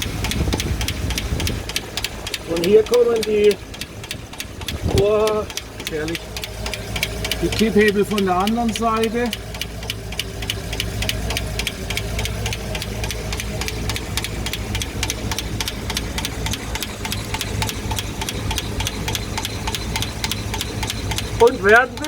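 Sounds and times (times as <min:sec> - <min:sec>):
engine idling: 0:00.0 - 0:22.0
valve train ticking: 0:00.0 - 0:22.0.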